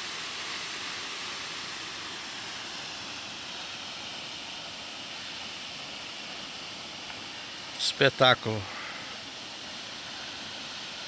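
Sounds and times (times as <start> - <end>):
waterfall rushing water: 0.0 - 11.0.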